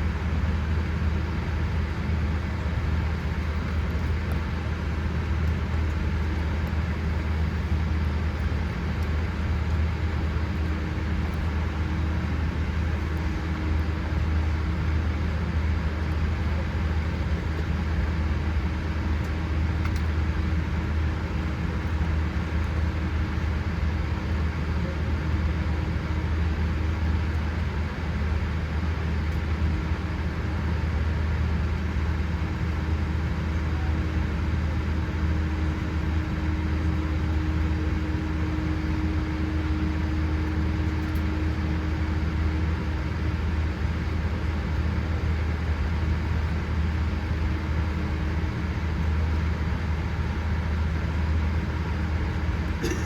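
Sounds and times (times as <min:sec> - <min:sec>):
aircraft cabin rumble and hum: 0:00.0 - 0:53.0.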